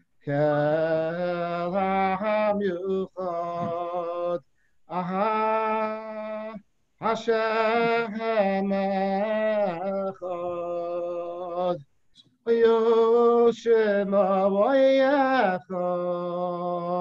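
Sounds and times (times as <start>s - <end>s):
man singing: 0.0s - 11.8s, 12.5s - 17.0s.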